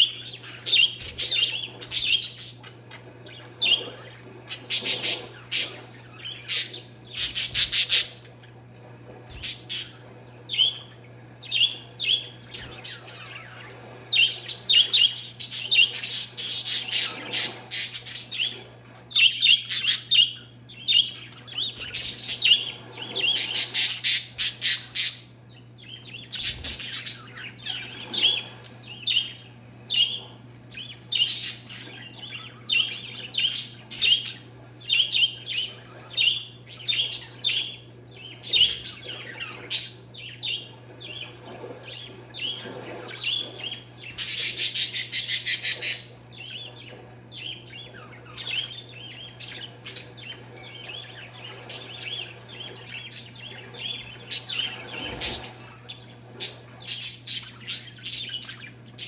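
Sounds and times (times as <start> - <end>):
low steady hum: 0.0 - 59.0
parakeets and finches chirping: 0.0 - 59.0.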